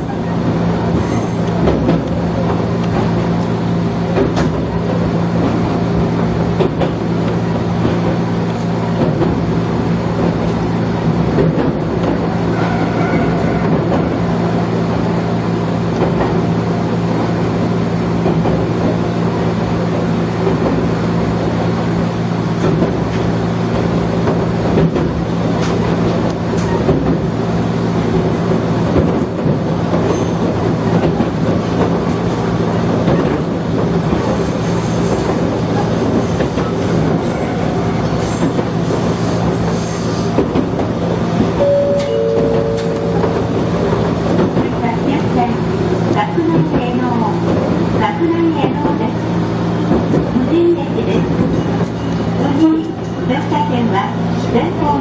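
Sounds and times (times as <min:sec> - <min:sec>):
train interior hum and rumble: 0:00.0 - 0:55.0.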